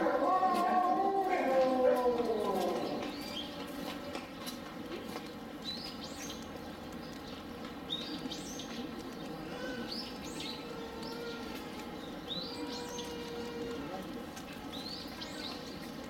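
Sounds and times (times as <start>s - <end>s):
steady background noise: 0.0s - 16.0s
small bird chirping: 2.9s - 16.0s.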